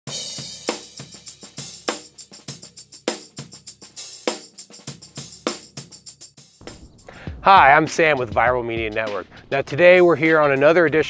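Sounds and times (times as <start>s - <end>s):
drum kit playing a steady beat: 0.1s - 11.0s.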